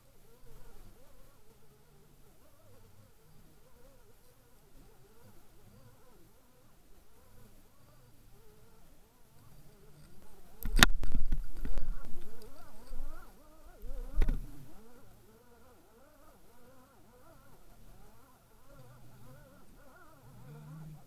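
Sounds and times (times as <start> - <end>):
faint warbling hum: 0.0 - 21.0.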